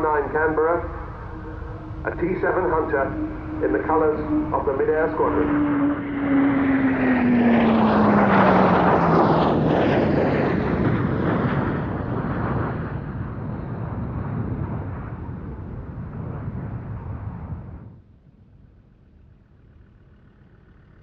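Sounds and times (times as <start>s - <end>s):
jets flying past: 0.0s - 17.9s.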